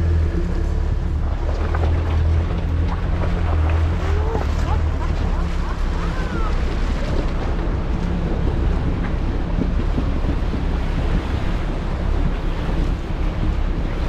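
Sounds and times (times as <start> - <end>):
vehicle engine and road rumble: 0.0 - 14.0
wind noise on microphone: 0.0 - 14.0.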